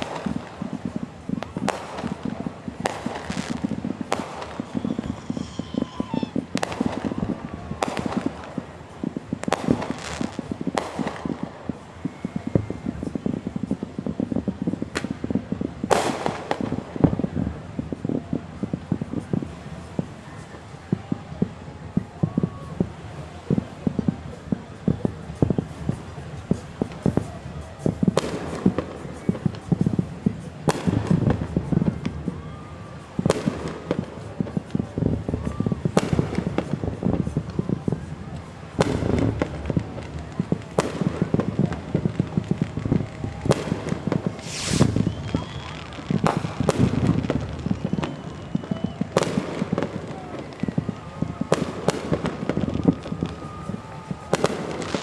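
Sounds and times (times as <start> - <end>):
fireworks crackling: 0.0 - 55.0
fireworks sharp bangs: 0.0 - 55.0.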